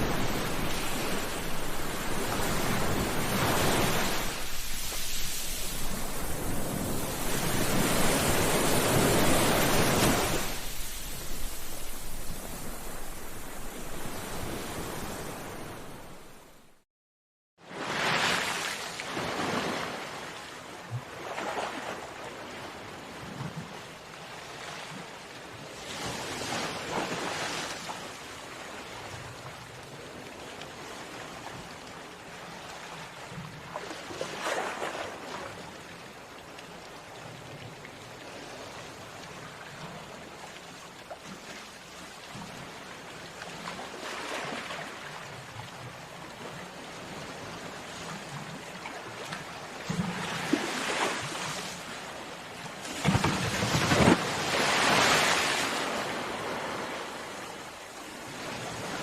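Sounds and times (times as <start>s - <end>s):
sea waves breaking on beach: 0.0s - 16.8s, 17.6s - 59.0s.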